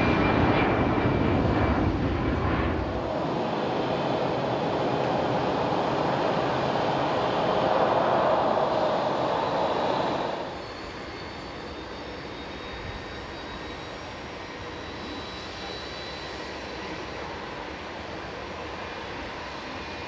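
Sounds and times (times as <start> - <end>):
jet engines taxiing hiss: 0.0 - 20.0.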